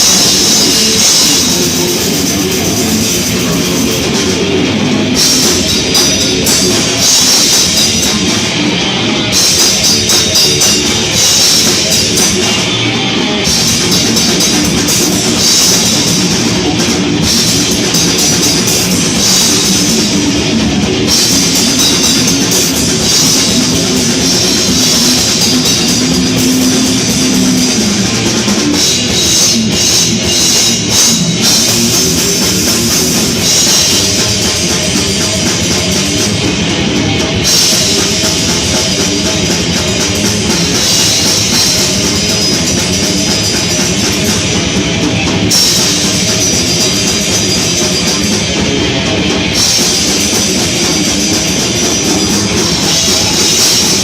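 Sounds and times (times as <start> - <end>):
bass guitar: 0.0 - 54.0
distorted electric guitar: 0.0 - 54.0
drum kit with cymbals: 0.0 - 54.0.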